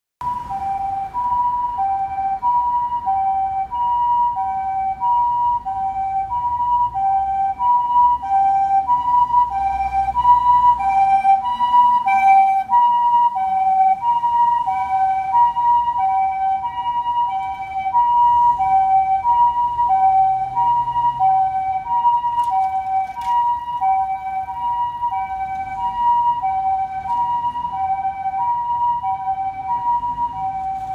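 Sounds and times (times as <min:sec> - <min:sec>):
two-tone ambulance siren: 0:00.2 - 0:30.9
vehicle engine rumbling: 0:00.2 - 0:30.9.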